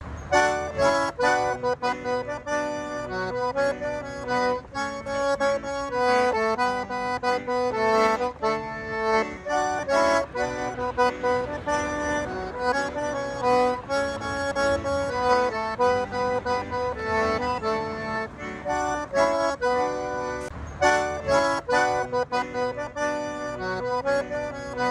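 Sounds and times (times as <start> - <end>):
accordion music: 0.0 - 24.9.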